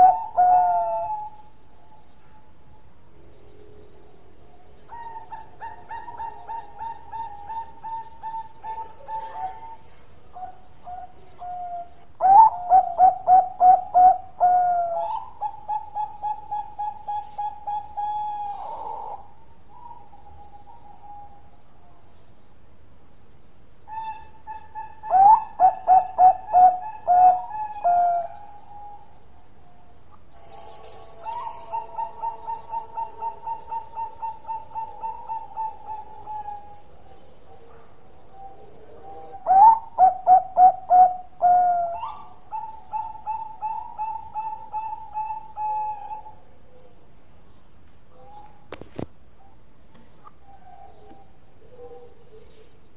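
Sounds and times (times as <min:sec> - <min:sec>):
dove cooing: 0:00.0 - 0:02.5, 0:03.2 - 0:21.5, 0:23.9 - 0:47.1, 0:50.2 - 0:52.9.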